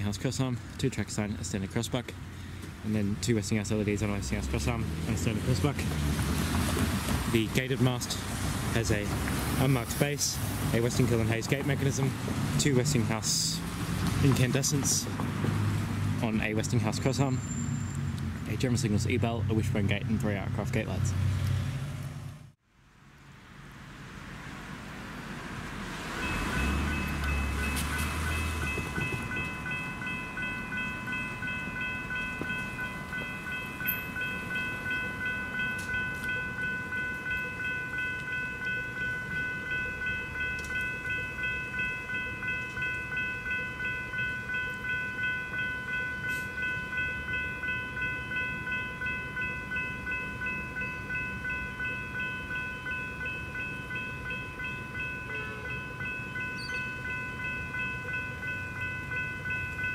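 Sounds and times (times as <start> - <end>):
level crossing bells ringing: 2.9 - 6.7, 7.3 - 21.0, 26.1 - 59.9.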